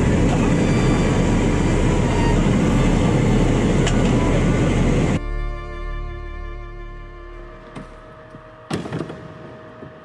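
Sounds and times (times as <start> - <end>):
low hum: 0.0 - 10.0
turboprop engines droning: 0.0 - 10.0.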